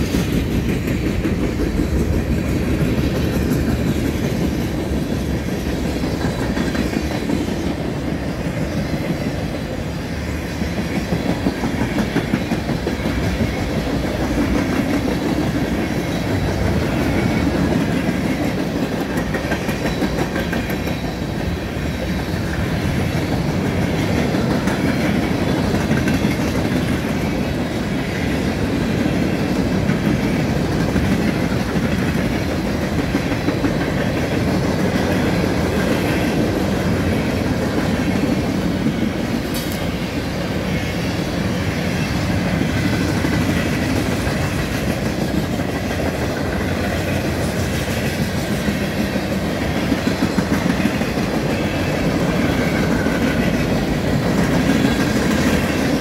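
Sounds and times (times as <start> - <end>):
wheels clacking over rail joints: 0.0 - 40.9, 41.5 - 56.0
freight train wheels rumbling: 0.0 - 56.0.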